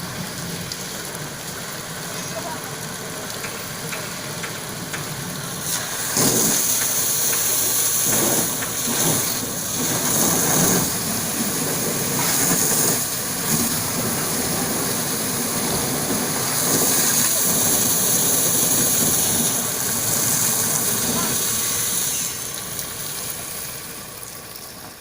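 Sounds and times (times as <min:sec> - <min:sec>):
pressure washer spraying car: 0:00.0 - 0:25.0.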